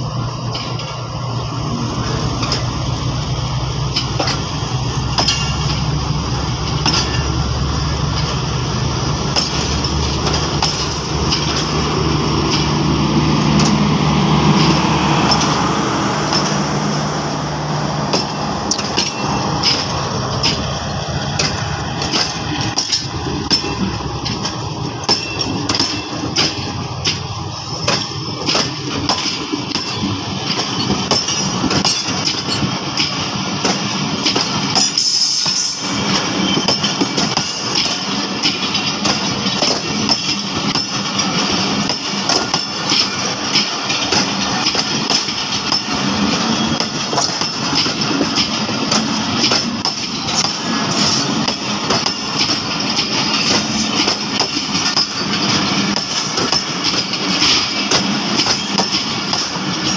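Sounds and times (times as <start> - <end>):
train coaches rumbling past: 0.0 - 59.9
wheels clicking over rail joints: 2.0 - 2.9, 3.8 - 16.7, 18.1 - 59.9.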